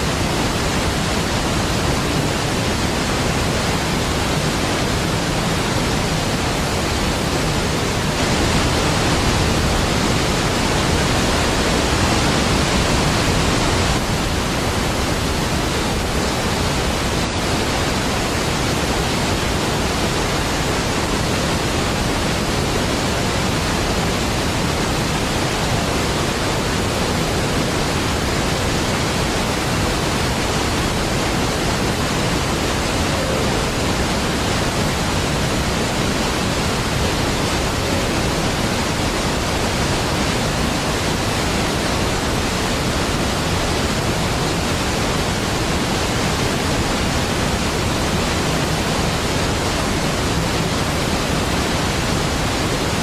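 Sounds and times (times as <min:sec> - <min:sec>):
waterfall rushing water: 0:00.0 - 0:53.0.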